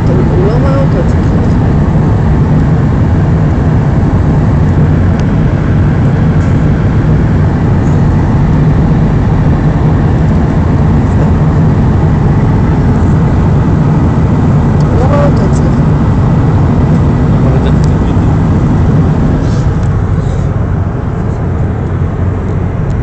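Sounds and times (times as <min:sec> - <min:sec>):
jet airliner cabin drone: 0:00.0 - 0:23.0.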